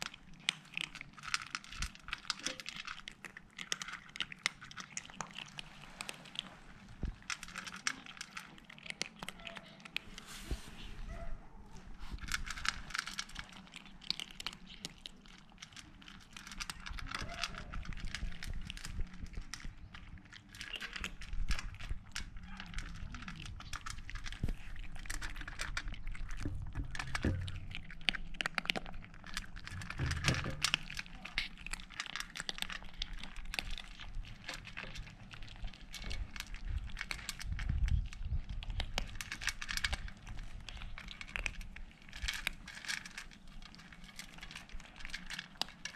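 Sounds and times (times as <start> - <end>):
kittens crunching dry kibble: 0.0 - 45.9.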